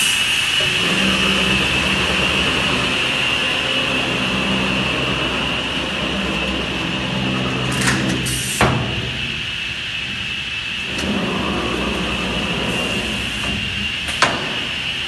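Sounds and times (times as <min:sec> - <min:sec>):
woodworking machinery humming: 0:00.0 - 0:15.0.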